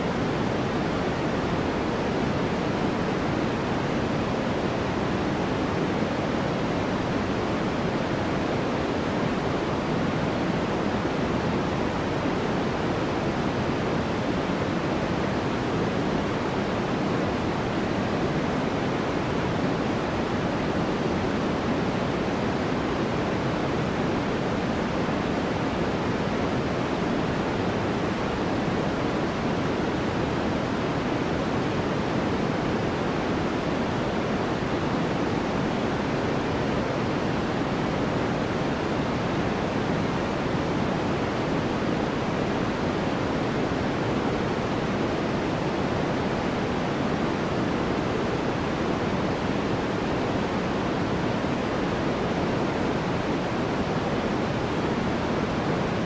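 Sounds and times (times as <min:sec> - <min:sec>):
continuous white noise: 0:00.0 - 0:56.0.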